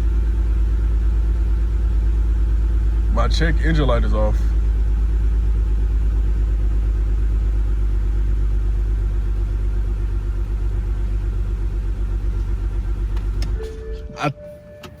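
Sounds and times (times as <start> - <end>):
car engine idling unevenly: 0.0 - 15.0.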